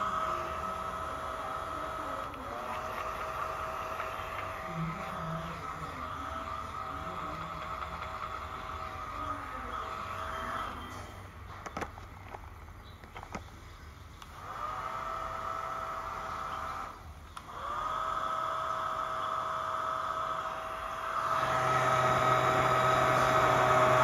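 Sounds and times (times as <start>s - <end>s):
small motor and fan whirring: 0.0s - 24.0s.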